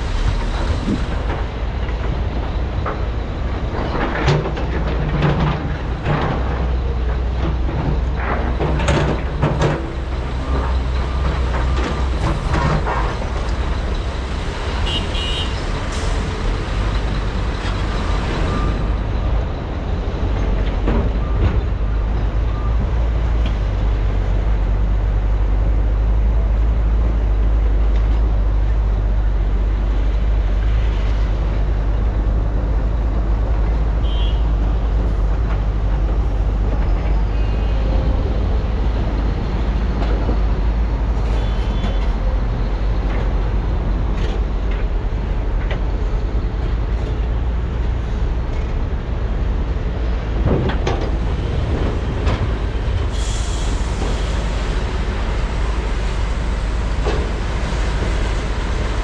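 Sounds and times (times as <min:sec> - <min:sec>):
diesel excavators and trucks running: 0:00.0 - 0:59.0.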